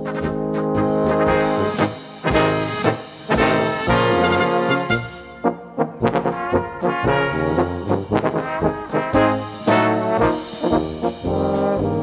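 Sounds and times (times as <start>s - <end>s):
sharp percussive beat: 0.0s - 11.4s
brass-led instrumental music: 0.0s - 12.0s.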